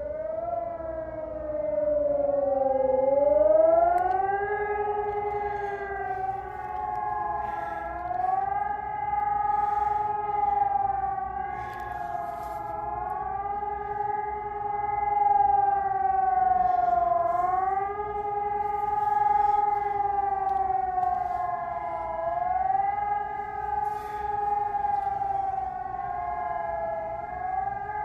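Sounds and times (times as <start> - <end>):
other sirens at different pitches: 0.0 - 28.0
rising and falling siren howl: 0.0 - 28.0.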